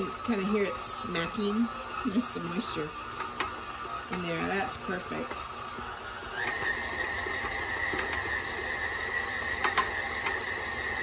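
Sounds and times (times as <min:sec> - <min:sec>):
stand mixer motor whine: 0:00.0 - 0:11.0.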